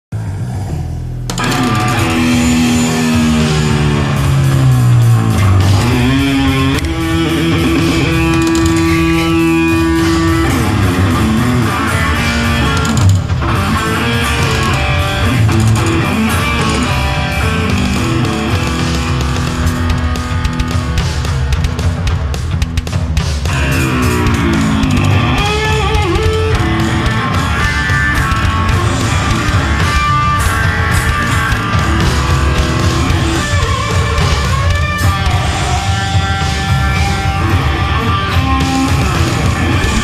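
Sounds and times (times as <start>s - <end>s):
heavy rock music with electric guitar: 1.2s - 40.0s.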